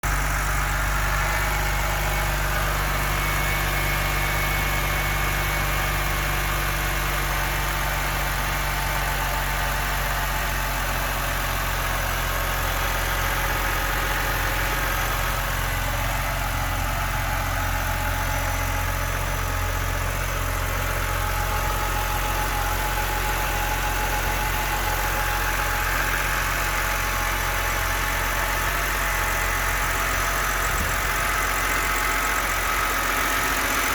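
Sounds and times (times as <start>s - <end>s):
car engine idling: 0.0s - 33.9s
strange engine noise: 0.0s - 33.9s.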